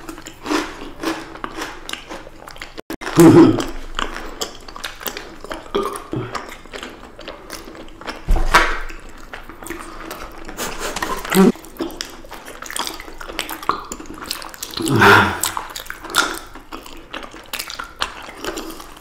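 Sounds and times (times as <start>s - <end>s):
biting and chewing clicks: 0.0s - 8.2s, 8.8s - 19.0s
wet mouth eating noises: 0.0s - 19.0s.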